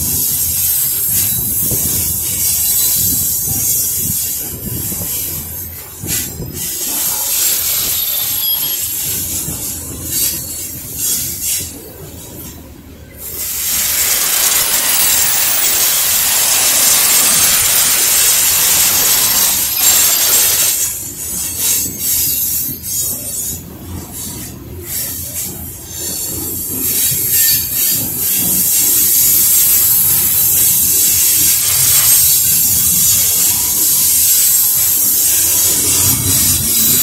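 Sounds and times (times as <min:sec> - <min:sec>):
rumbling and knocks of train cars: 0:00.0 - 0:37.0
train wheels hissing on rails: 0:00.0 - 0:37.0.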